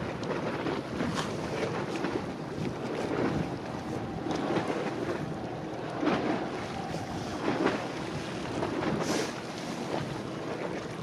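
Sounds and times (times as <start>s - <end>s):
water washing against pier: 0.0s - 11.0s
wind buffeting microphone: 0.0s - 11.0s.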